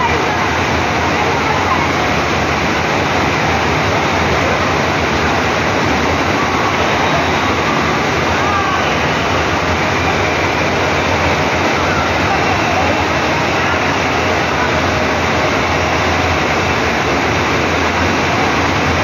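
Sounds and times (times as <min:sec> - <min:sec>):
water rushing loudly: 0:00.0 - 0:19.0.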